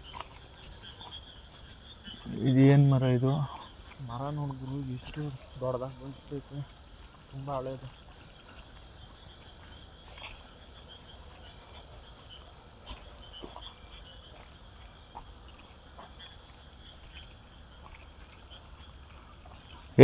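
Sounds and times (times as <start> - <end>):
insect chirps: 0.0 - 20.0
insect trill: 0.0 - 20.0.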